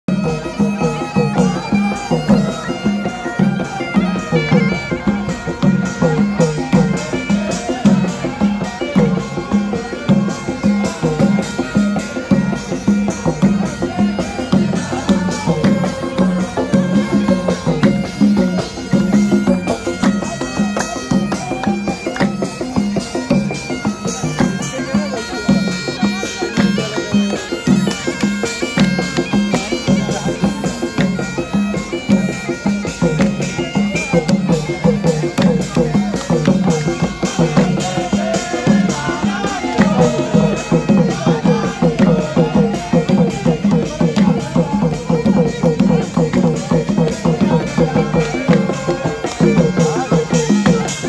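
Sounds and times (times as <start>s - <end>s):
bagpipes playing droning melody: 0.1s - 51.0s
drums beating steady rhythm: 0.1s - 51.0s.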